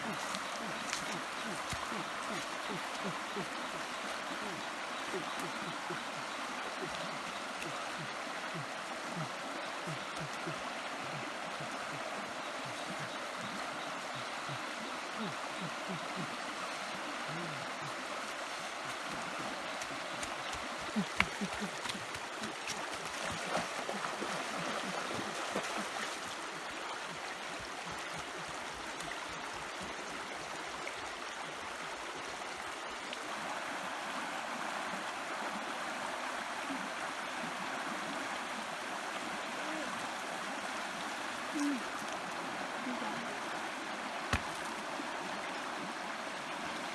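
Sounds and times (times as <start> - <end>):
water splashing and gurgling: 0.0 - 30.0, 38.6 - 46.9
stream water running: 0.0 - 46.9.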